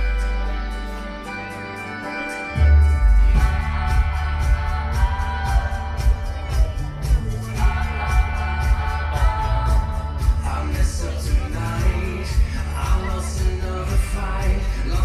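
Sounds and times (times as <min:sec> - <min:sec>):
heavy bass: 0:00.0 - 0:15.0
singing over held chords: 0:00.0 - 0:15.0
steady drum beat: 0:02.7 - 0:15.0.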